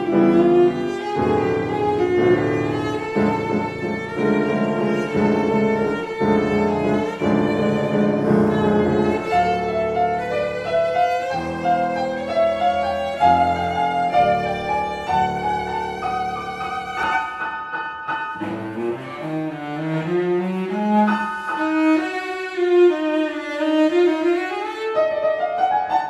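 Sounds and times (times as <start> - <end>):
bowed cello melody: 0.0 - 26.0
piano chords: 0.0 - 26.0.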